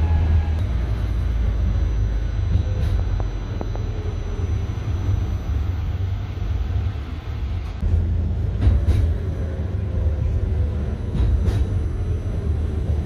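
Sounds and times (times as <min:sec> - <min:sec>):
street traffic noise: 0:00.0 - 0:13.0
tram rumbling: 0:00.0 - 0:13.0.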